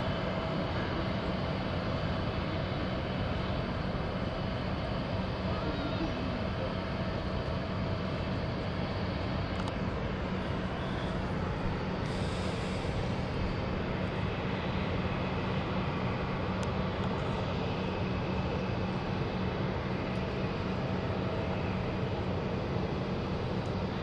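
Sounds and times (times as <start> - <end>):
jet engines idling: 0.0 - 24.0.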